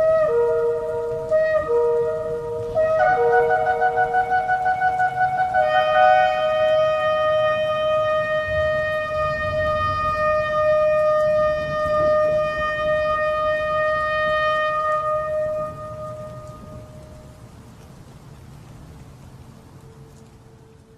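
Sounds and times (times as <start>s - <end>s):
ram's horn blast: 0.0s - 17.1s
higher horn note: 0.0s - 17.3s.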